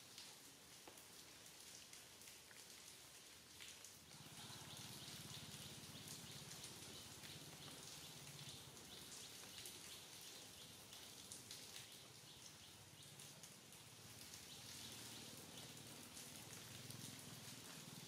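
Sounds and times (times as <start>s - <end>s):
light rain: 0.0s - 18.0s
raindrops on leaves: 0.0s - 18.0s.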